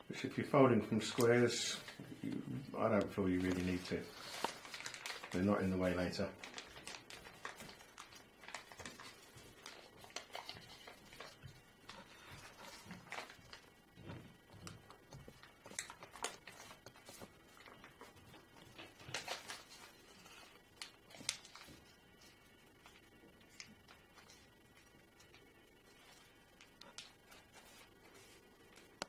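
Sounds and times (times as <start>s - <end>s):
paper rustling and crinkling: 1.0s - 29.0s
small paper crackles: 1.0s - 29.0s.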